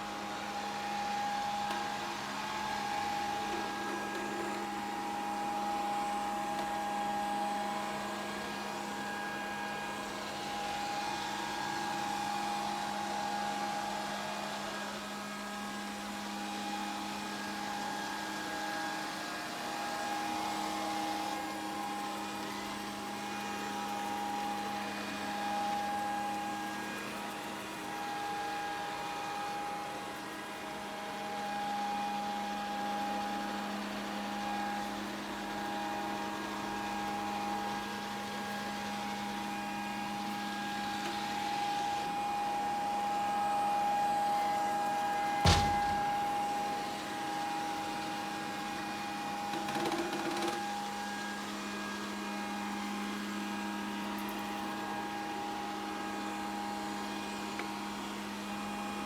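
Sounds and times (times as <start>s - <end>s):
robot vacuum cleaner running: 0.0s - 59.0s.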